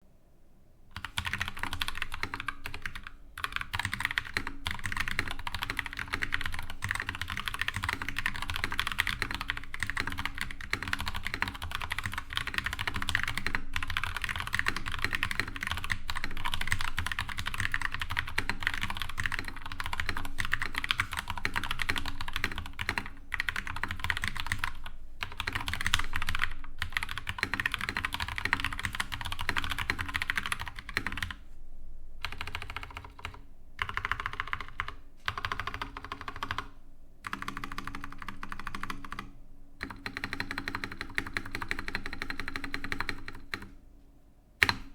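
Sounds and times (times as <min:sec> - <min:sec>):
mechanical keyboard typing: 0:01.0 - 0:31.4, 0:32.2 - 0:43.8, 0:44.6 - 0:44.9.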